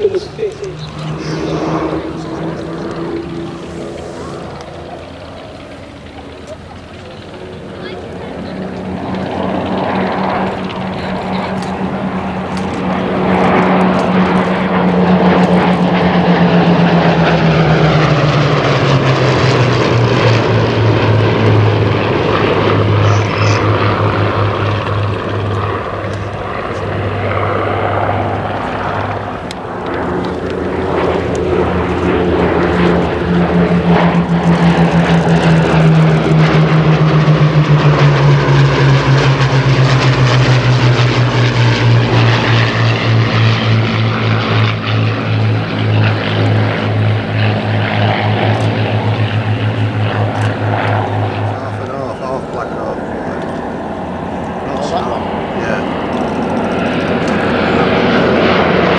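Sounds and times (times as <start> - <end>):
propeller aircraft engines passing: 0.0 - 58.9.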